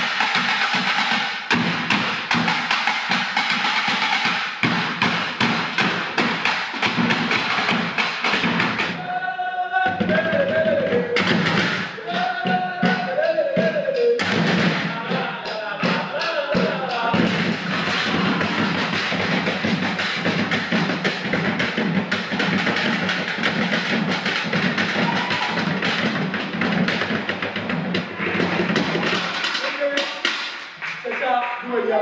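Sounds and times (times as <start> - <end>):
sticks drumming on jerrycans: 0.0 - 9.0, 9.9 - 32.0.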